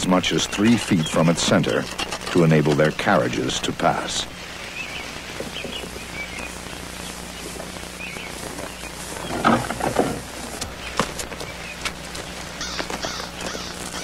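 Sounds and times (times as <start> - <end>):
low steady background: 0.0 - 14.0
small birds chirping: 0.0 - 14.0.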